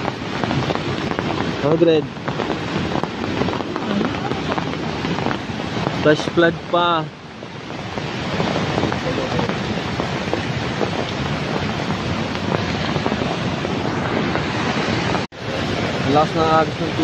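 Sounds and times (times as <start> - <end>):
rain falling: 0.0 - 17.0
river rushing: 0.0 - 17.0.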